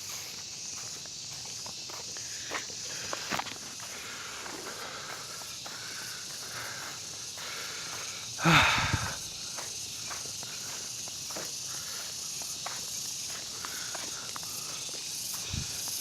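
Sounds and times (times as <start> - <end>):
footsteps outdoors: 0.0 - 16.0
steady high hiss: 0.0 - 16.0.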